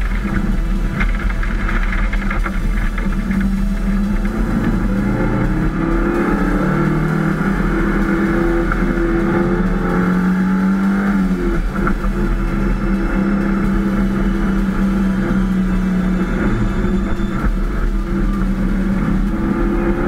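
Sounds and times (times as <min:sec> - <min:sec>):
rally car engine from inside: 0:00.0 - 0:20.0.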